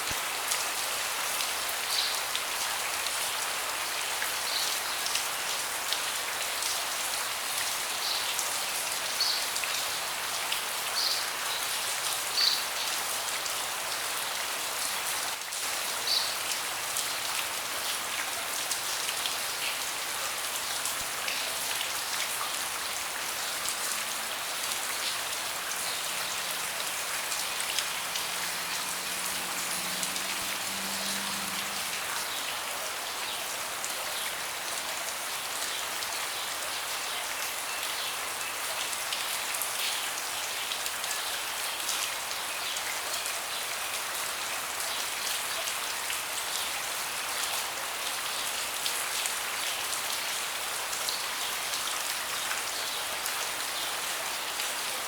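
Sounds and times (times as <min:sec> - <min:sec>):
rain falling on a deck: 0:00.0 - 0:55.0.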